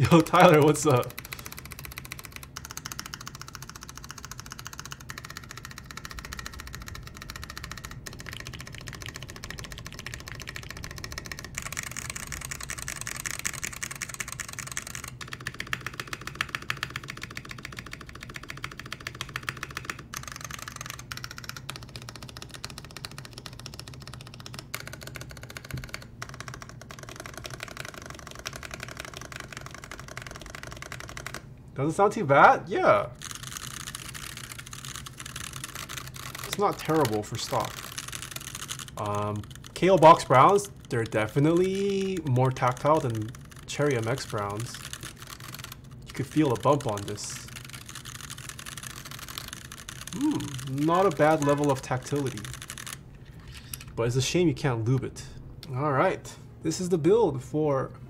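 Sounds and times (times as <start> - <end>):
fast mechanical keyboard typing: 0.0 - 55.1.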